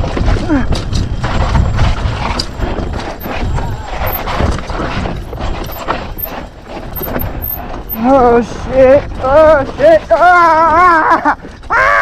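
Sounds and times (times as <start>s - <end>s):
bike knocks and rattles: 0.0s - 11.7s
wind rumbling on microphone: 0.0s - 12.0s.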